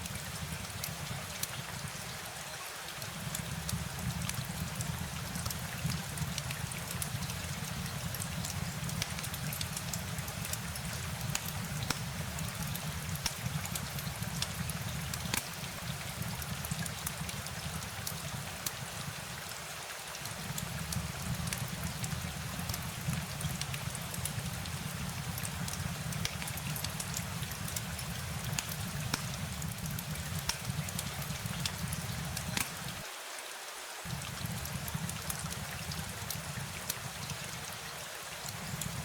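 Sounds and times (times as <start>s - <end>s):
rain drops ticking: 0.0s - 33.2s, 34.0s - 39.0s
rain patter: 0.0s - 39.0s.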